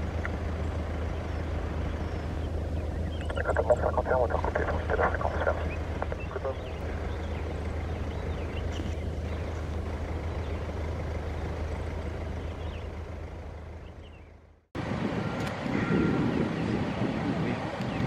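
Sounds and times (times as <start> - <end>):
distant engines droning: 0.0 - 18.0.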